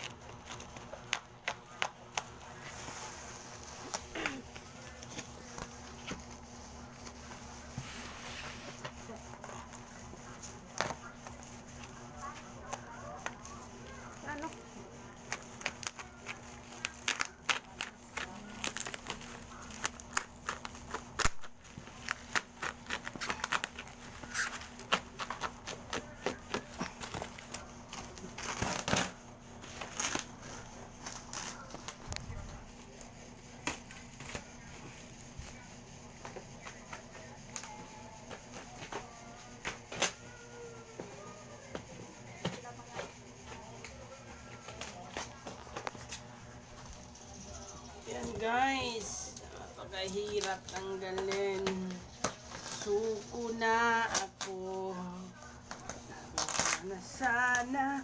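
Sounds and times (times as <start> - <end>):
bubble wrap crinkling: 0.0 - 58.0.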